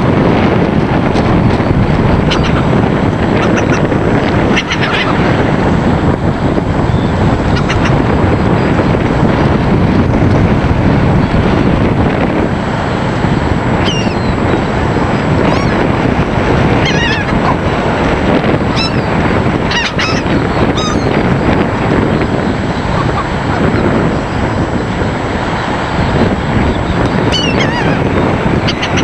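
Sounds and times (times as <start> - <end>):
wind noise on microphone: 0.0 - 29.0
gulls calling: 1.2 - 8.9, 13.1 - 29.0.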